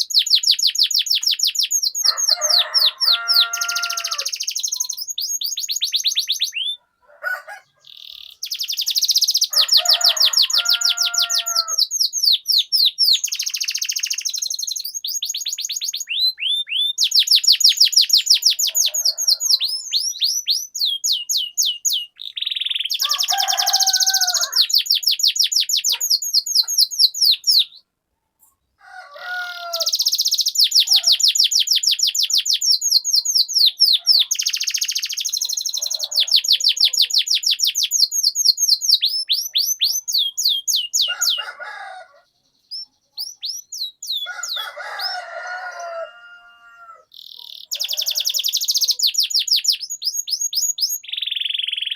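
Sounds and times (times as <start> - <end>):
canary singing trills: 0.0 - 28.0, 29.3 - 51.9.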